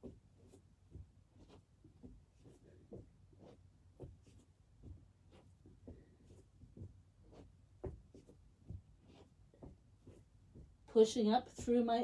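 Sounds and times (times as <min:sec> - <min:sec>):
rustles and taps on exercise mat: 0:00.0 - 0:12.0.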